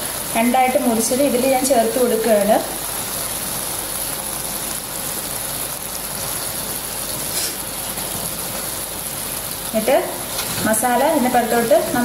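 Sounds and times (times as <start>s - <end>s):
sauce sizzling in oil: 0.0s - 12.0s.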